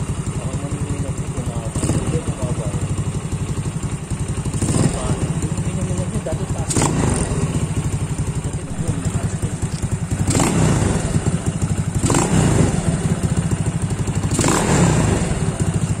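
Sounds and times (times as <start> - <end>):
engine revving: 0.0 - 3.0, 4.3 - 16.0
scooter engine idling: 0.0 - 16.0.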